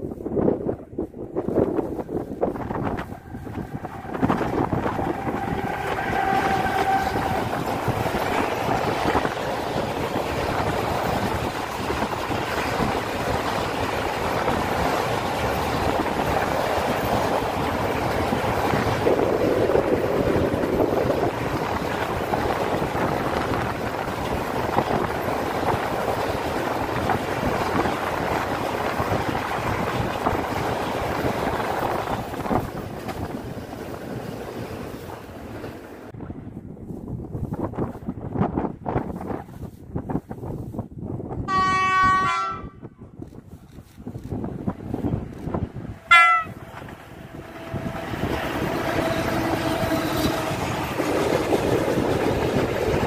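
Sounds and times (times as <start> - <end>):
train wheels rumbling on rails: 0.0 - 53.0
locomotive whine: 1.0 - 36.1, 45.0 - 53.0.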